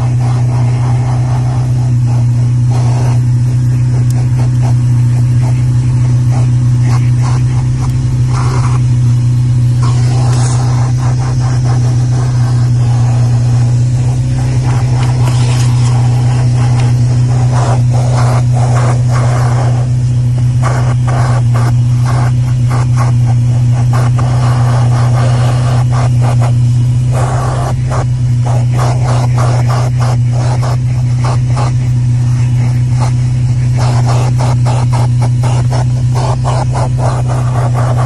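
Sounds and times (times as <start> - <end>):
dirt crackling and rattling: 0.0 - 38.0
nozzle scraping over carpet: 0.0 - 38.0
vacuum cleaner humming: 0.0 - 38.0.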